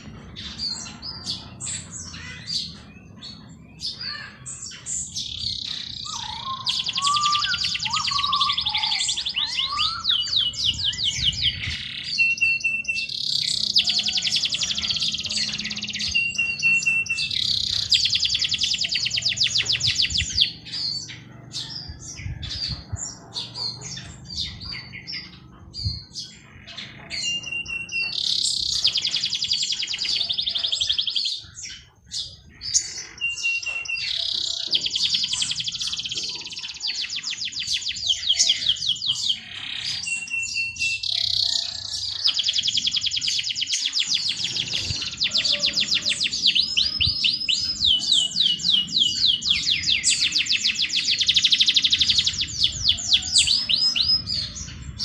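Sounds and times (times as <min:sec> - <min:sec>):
songbird trilling: 0:00.0 - 0:55.0.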